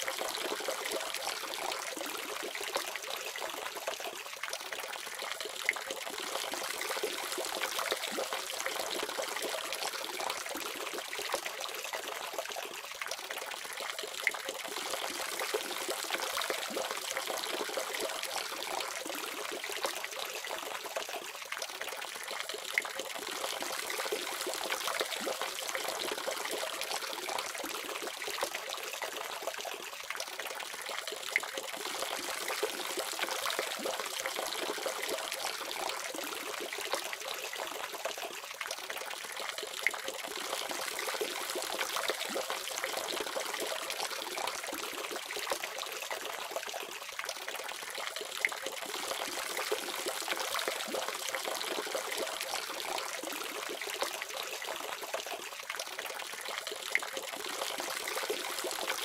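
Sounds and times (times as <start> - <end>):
water drips and splashes: 0.0 - 59.0.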